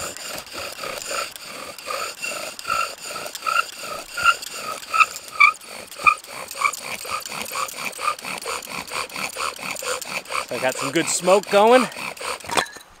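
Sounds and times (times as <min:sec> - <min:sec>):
bow drill squeaky wood rubbing: 0:00.0 - 0:12.6.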